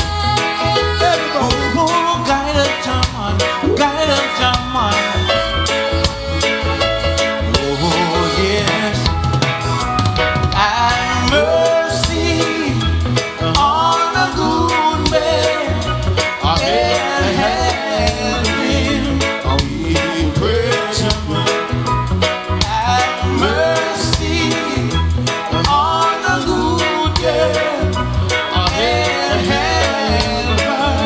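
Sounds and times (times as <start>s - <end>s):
bass line: 0.0s - 31.0s
drum kit beat: 0.0s - 31.0s
reggae music: 0.0s - 31.0s.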